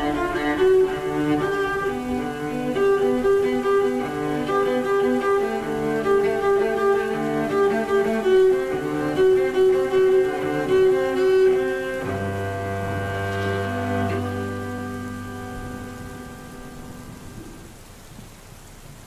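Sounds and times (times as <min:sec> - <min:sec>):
cello and strings playing: 0:00.0 - 0:17.8.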